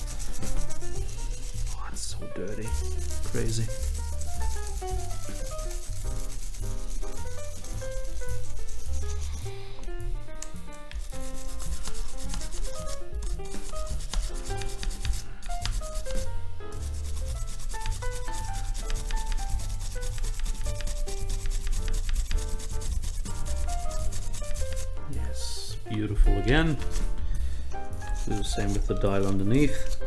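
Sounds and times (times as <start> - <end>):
scrubbing strokes on camera: 0.0 - 9.9, 10.8 - 30.0
background music: 0.0 - 30.0.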